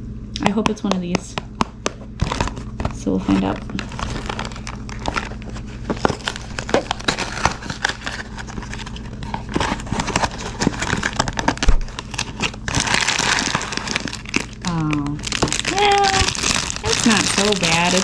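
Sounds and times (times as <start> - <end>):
cardboard and plastic bag rustling: 2.0 - 18.0.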